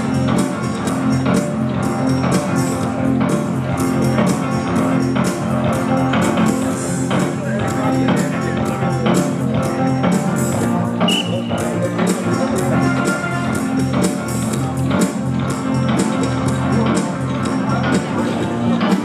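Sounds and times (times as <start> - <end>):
music with guitar and beat: 0.0 - 19.0.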